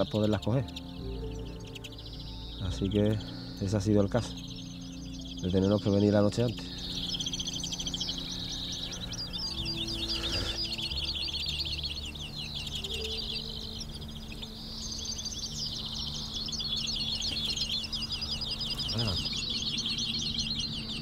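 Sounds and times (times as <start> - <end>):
finches twittering: 0.0 - 21.0.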